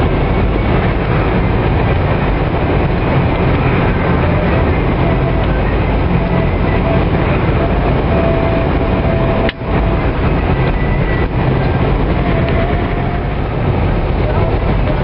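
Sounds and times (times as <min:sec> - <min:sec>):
engine and road noise in cab: 0:00.0 - 0:15.0.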